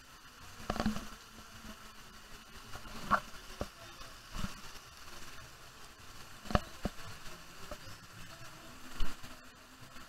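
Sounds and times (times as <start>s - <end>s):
running water hiss: 0.0s - 10.0s.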